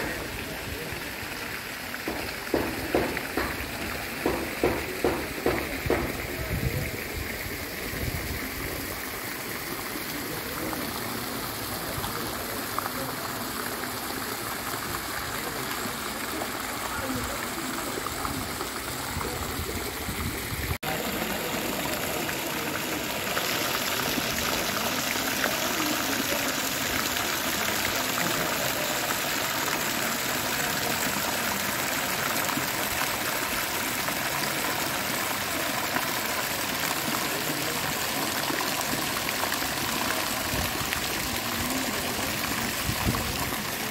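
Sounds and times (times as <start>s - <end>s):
fountain splashing into water: 0.0s - 43.9s.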